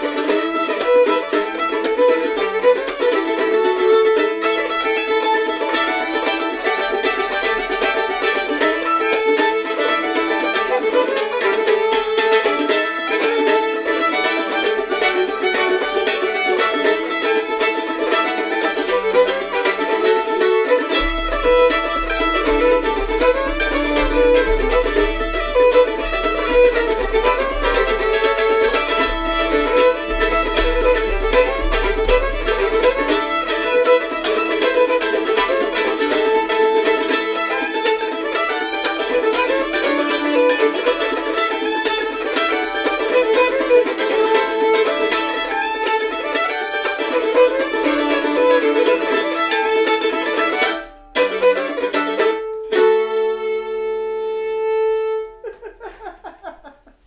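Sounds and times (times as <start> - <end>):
foot percussion beat: 0.0 - 51.8, 55.3 - 57.0
mandolin chop: 0.0 - 53.4
fiddle playing melody: 0.0 - 57.0.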